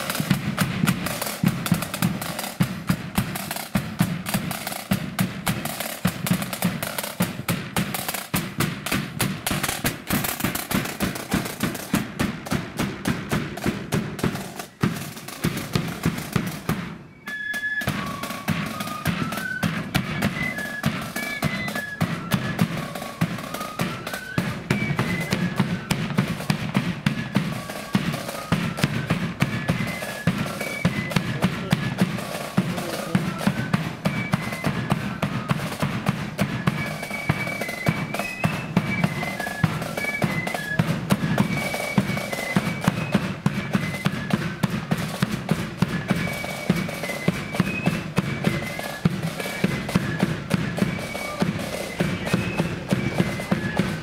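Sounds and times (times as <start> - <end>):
bass drum and side drums: 0.0 - 17.1, 17.8 - 54.0
flutes playing march melody: 0.0 - 54.0.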